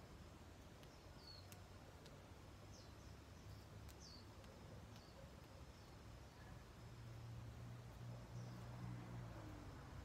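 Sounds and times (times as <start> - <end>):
bird chirping: 0.8 - 7.1, 7.9 - 9.7.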